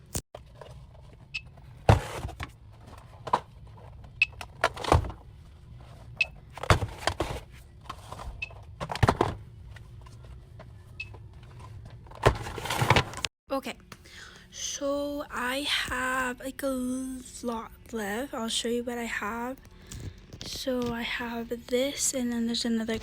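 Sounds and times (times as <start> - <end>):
merchandise and packaging rustling: 0.0 - 23.0
steady low hum: 0.0 - 23.0.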